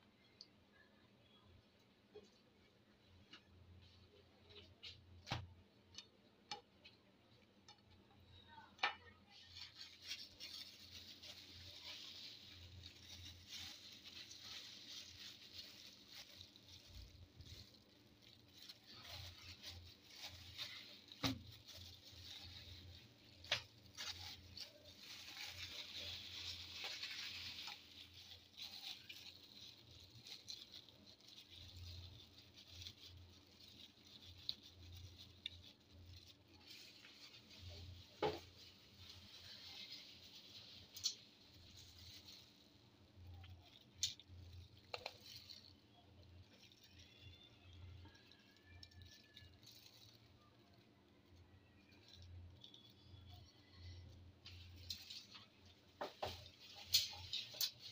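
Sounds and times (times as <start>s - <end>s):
plastic gloves crinkling: 0.2s - 57.9s.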